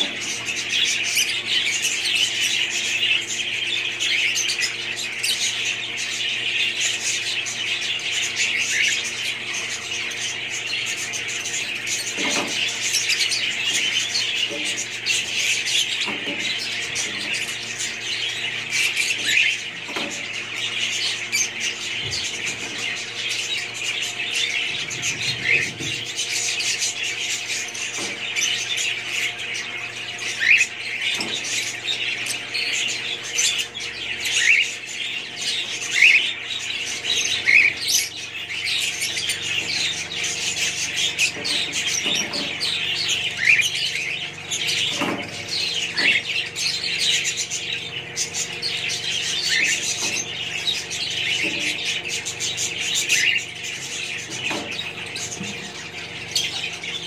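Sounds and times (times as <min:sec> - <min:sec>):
budgerigars chirping and warbling: 0:00.0 - 0:57.0.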